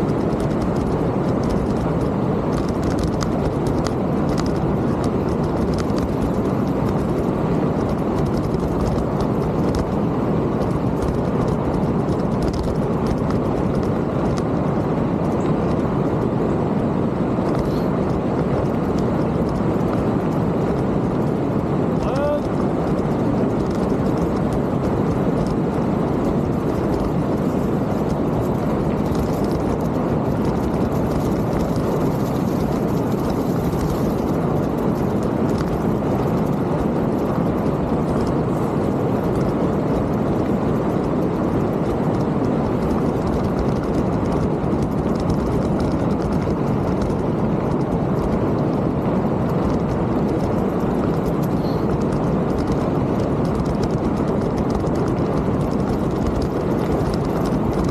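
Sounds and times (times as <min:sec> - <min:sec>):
tyres rolling over trail: 0:00.0 - 0:57.9
wind buffeting microphone: 0:00.0 - 0:57.9.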